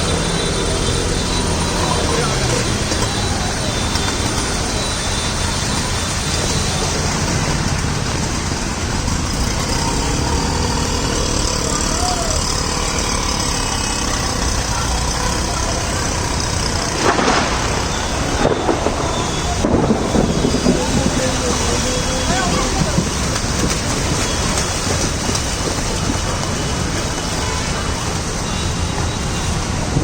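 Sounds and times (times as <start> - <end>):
heavy rain: 0.0 - 30.0
road traffic: 0.0 - 30.0.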